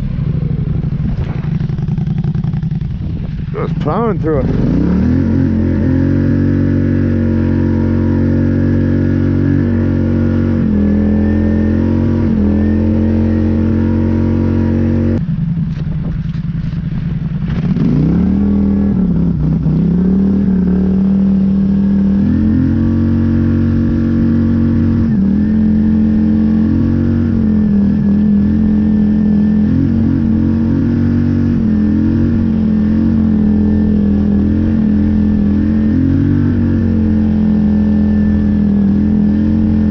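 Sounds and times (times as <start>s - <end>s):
atv engine running under load: 0.0s - 39.9s.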